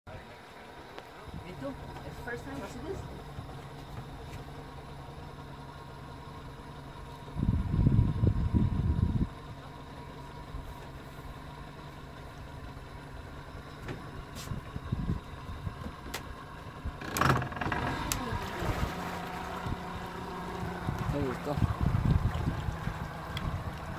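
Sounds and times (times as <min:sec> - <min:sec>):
boat motor idling: 0:00.1 - 0:23.9
loud low rumbling: 0:01.2 - 0:23.9.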